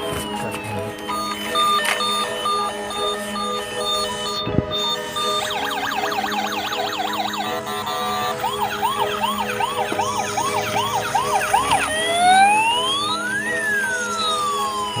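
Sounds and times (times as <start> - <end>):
electronic police siren: 0.0 - 15.0.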